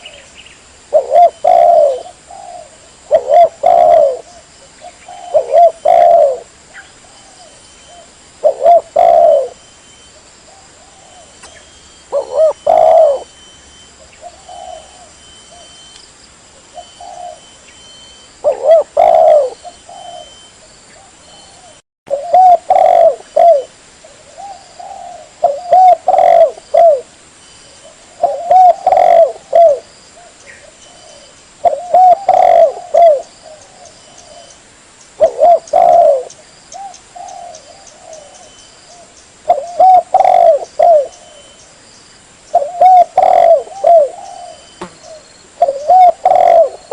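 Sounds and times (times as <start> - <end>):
dove cooing: 0.9 - 15.9, 16.6 - 27.1, 27.7 - 34.6, 35.2 - 41.6, 42.5 - 46.9.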